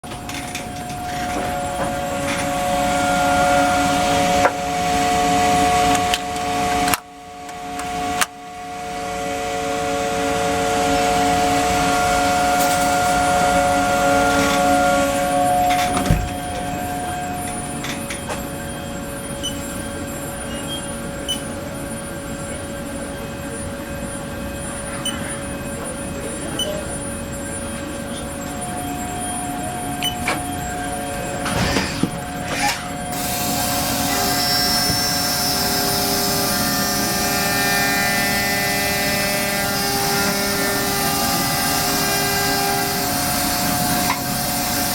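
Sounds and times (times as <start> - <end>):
milling machine whine: 0.0 - 44.9.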